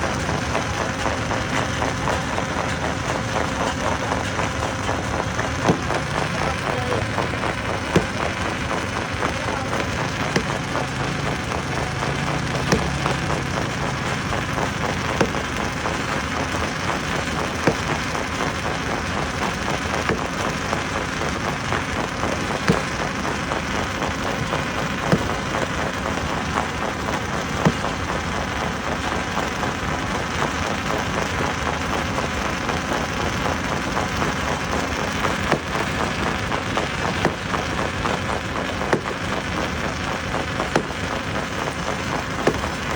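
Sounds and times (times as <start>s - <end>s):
rock crackling and rattling: 0.0s - 42.9s
stone crusher running: 0.0s - 42.9s.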